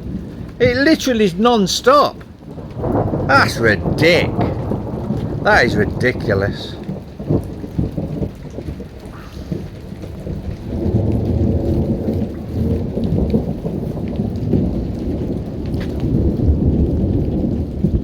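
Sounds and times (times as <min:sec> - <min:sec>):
rolling thunder: 0:00.0 - 0:18.0.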